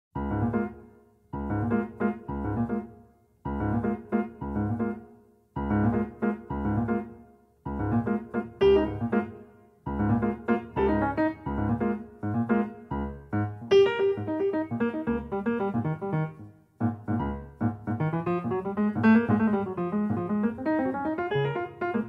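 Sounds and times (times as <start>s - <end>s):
slow solo piano music: 0.2s - 22.0s.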